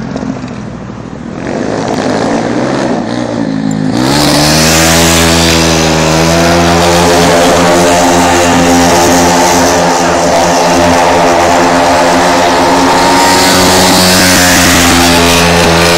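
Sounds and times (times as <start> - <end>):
motorcycle engine running loudly: 0.0 - 15.9.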